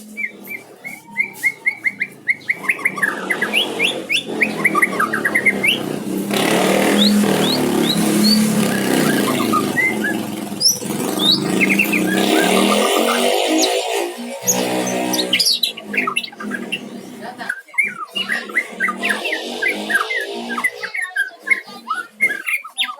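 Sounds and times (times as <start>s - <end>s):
bird singing: 0.0s - 22.9s.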